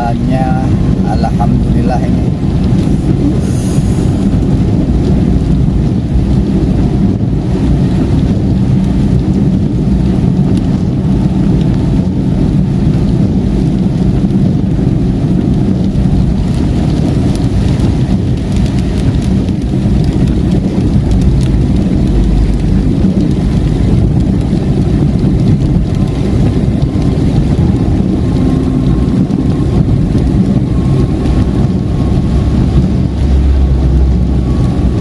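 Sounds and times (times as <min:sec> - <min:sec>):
car cabin rumble at speed: 0:00.0 - 0:35.0
rain on a car: 0:00.0 - 0:35.0
tyres on wet road: 0:00.0 - 0:35.0.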